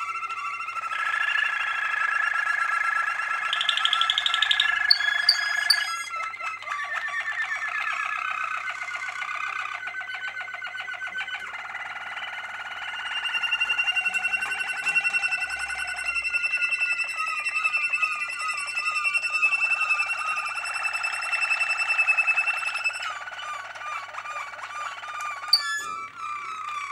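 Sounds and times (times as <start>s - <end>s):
canary singing: 0.0s - 26.9s.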